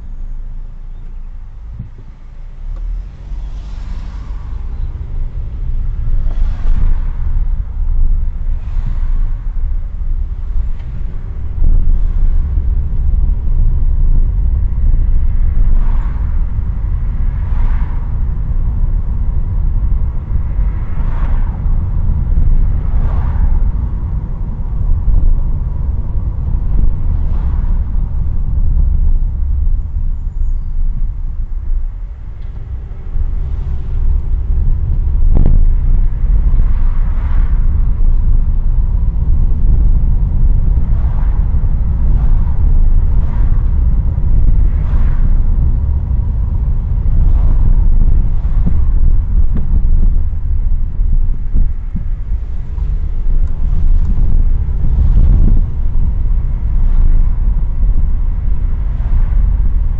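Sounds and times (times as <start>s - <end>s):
car road rumble: 0.0s - 59.9s.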